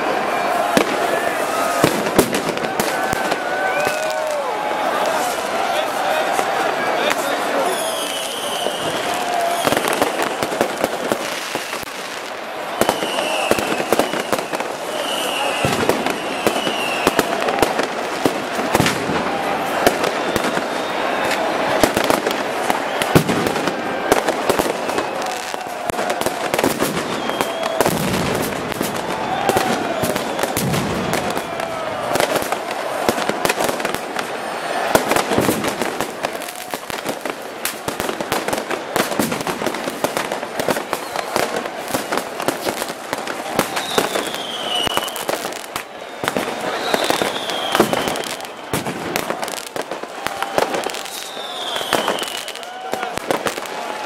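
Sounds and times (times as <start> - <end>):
fireworks and firecrackers popping: 0.0 - 54.0
firework whistles: 7.2 - 54.0.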